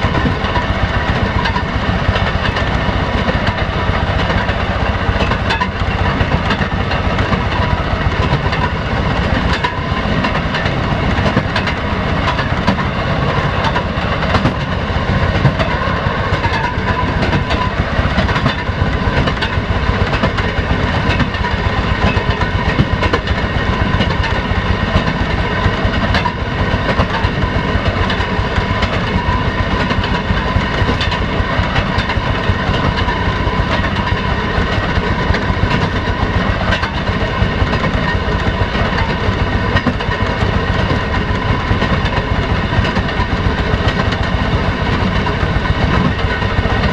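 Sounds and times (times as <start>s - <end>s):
rail motor car running: 0.0s - 46.9s
wheels clicking over rail joints: 0.0s - 46.9s.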